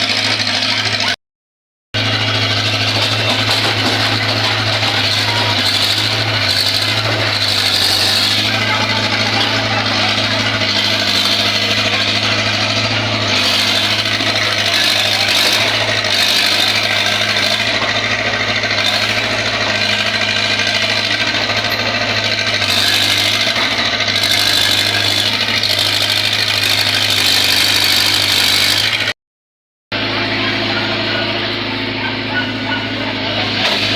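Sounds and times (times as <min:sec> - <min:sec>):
engine humming: 0:00.0 - 0:01.2, 0:02.0 - 0:29.2, 0:29.9 - 0:33.9.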